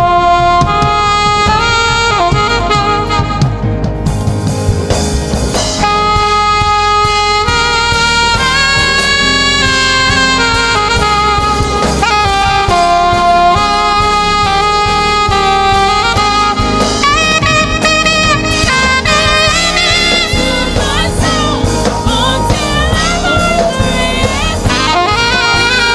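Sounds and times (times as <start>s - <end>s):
gospel band with drums: 0.0s - 25.9s
saxophone slow melody: 0.0s - 25.9s.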